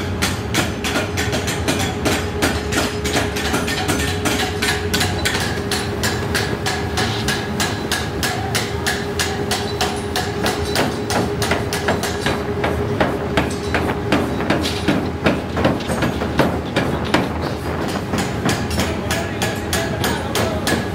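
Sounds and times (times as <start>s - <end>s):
power hammer pounding steel: 0.0s - 20.9s
steady hum: 0.0s - 20.9s.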